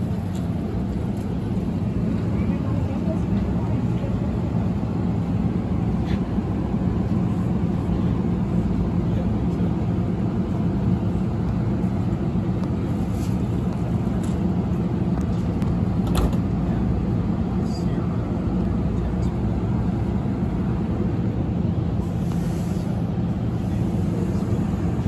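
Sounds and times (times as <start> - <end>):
passenger train rumbling past: 0.0 - 25.0.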